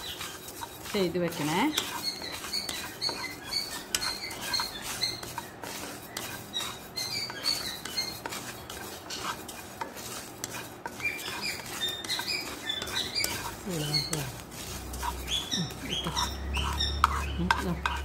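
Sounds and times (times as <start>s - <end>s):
spatula scraping rice in pan: 0.0s - 18.0s.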